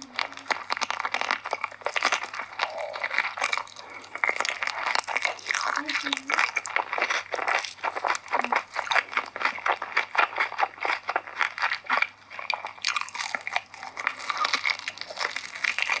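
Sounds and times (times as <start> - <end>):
person chewing chicken: 0.0 - 16.0.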